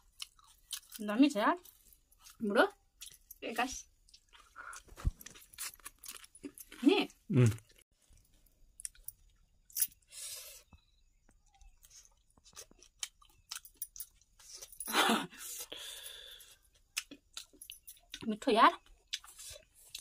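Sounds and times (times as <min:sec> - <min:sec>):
wet chewing sounds: 0:00.0 - 0:01.0, 0:01.6 - 0:03.4, 0:04.0 - 0:09.5, 0:10.7 - 0:14.8, 0:15.6 - 0:20.0.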